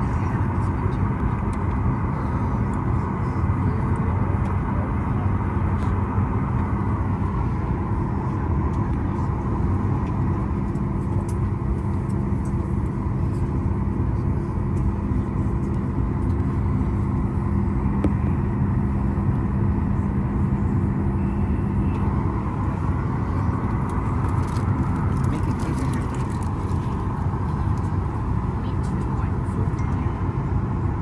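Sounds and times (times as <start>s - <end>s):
air-conditioning rush: 0.0s - 31.0s
jet engines idling: 0.0s - 31.0s
low drone: 5.8s - 31.0s.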